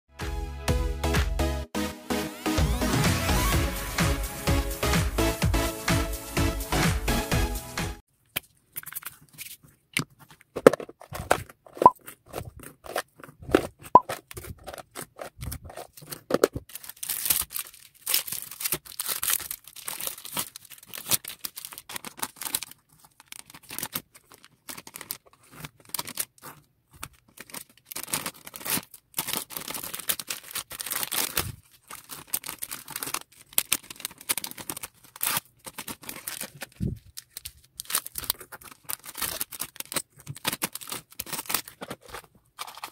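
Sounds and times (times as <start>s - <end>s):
plastic bags crinkling: 8.2s - 42.9s.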